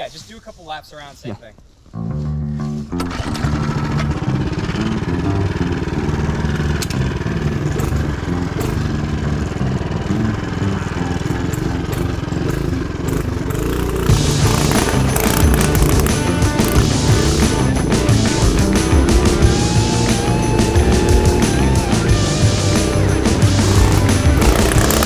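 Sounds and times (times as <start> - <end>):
mini bike engine revving: 3.0 - 25.0.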